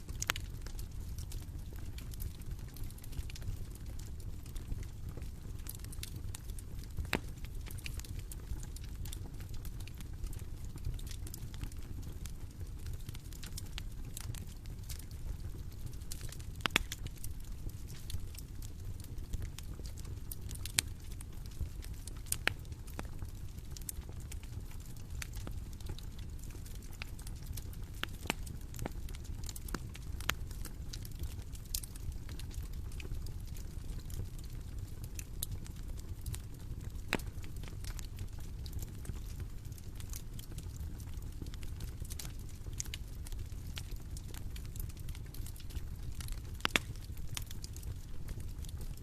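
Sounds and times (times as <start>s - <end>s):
bonfire crackling and popping: 0.0s - 49.0s
low rumble of fire: 0.0s - 49.0s.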